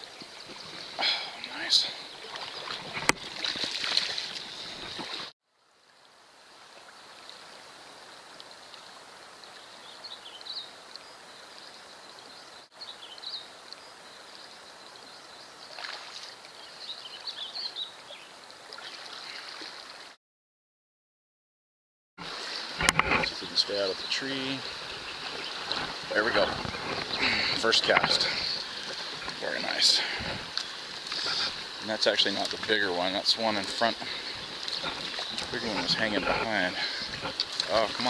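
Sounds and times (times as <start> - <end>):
river water flowing: 0.0 - 20.2, 22.2 - 38.0.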